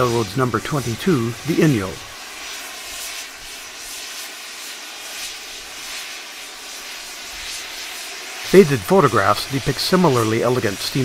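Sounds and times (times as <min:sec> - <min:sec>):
steam hissing from safety valve: 0:00.0 - 0:11.0.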